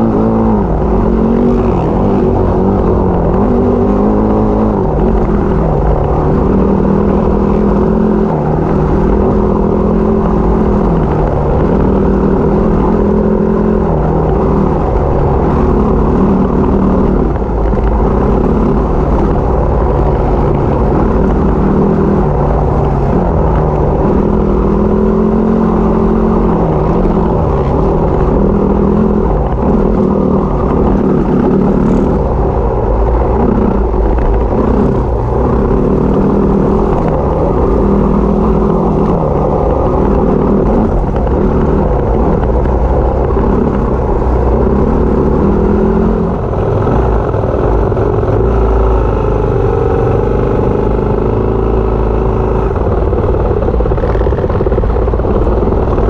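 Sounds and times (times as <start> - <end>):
trail bike engine revving: 0.0 - 56.0.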